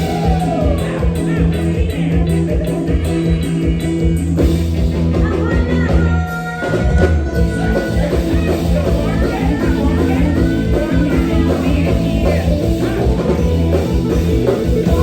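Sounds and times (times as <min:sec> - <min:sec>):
live band playing folk music: 0:00.0 - 0:15.0.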